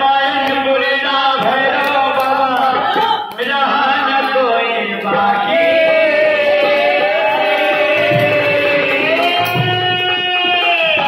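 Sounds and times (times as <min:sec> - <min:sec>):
man singing into microphone: 0:00.0 - 0:11.0
hand claps: 0:00.2 - 0:11.0
group chanting along: 0:00.4 - 0:10.6.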